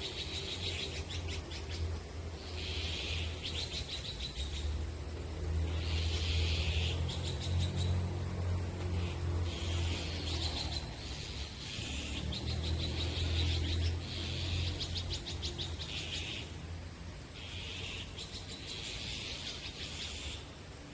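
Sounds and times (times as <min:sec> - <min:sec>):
songbirds trilling: 0:00.0 - 0:20.9.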